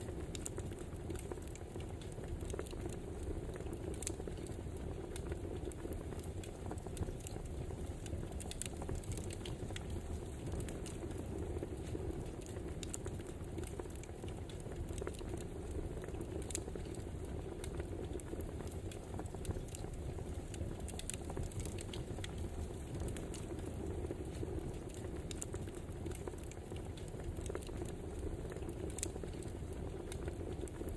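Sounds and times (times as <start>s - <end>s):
logs crackling and popping: 0.0s - 30.9s
low rush of flames: 0.0s - 30.9s.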